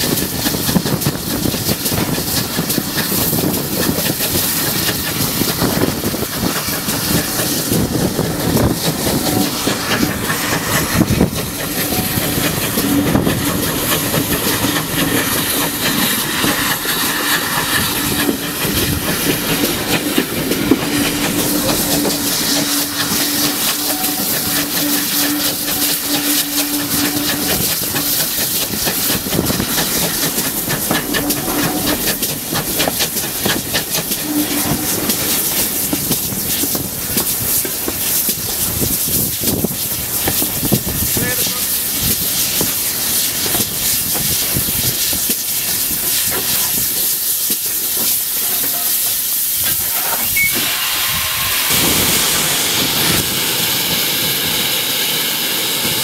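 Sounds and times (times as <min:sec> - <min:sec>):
steam train running: 0:00.0 - 0:56.0.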